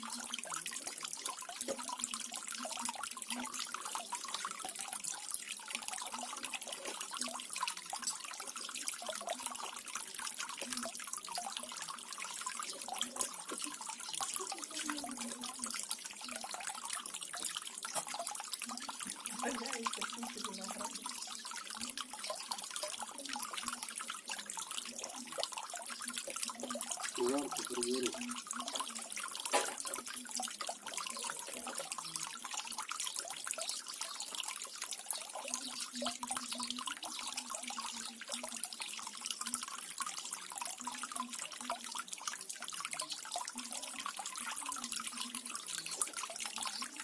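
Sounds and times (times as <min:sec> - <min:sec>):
waterfall splashing and trickling: 0:00.0 - 0:47.0.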